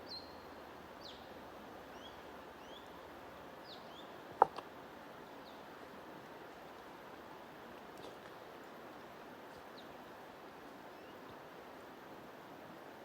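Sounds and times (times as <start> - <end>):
steady hiss of flowing water: 0.0 - 13.0.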